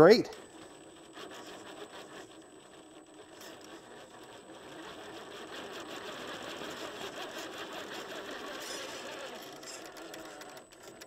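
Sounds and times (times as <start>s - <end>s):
electric motor whirring: 0.0s - 11.0s.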